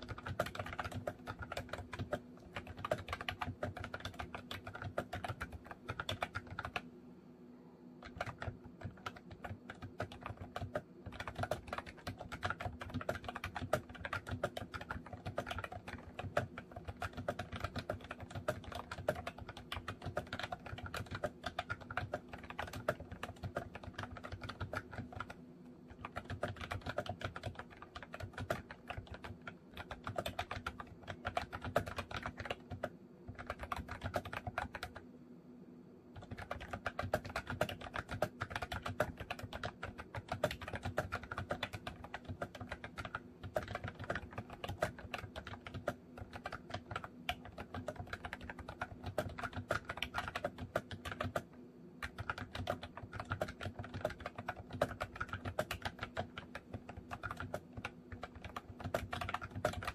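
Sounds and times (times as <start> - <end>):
fast typing on keyboard: 0.0 - 6.9, 8.0 - 35.1, 36.1 - 59.9
faint steady hum: 0.0 - 59.9.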